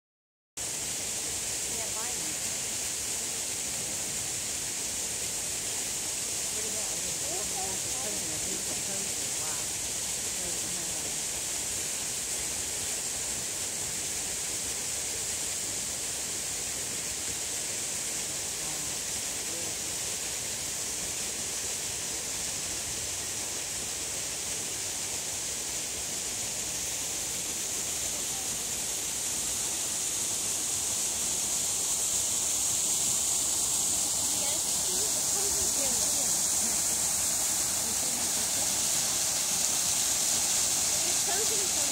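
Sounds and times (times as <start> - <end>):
steady outdoor hiss: 0.6 - 41.9.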